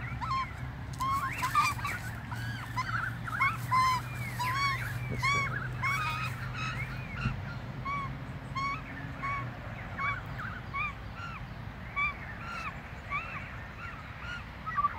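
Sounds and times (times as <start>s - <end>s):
magpies calling: 0.0s - 14.9s.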